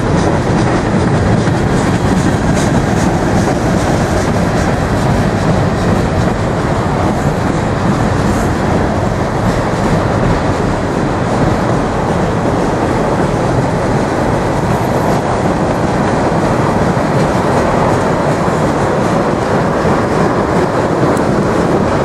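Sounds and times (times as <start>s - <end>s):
steel wheels running on rails: 0.0s - 22.0s.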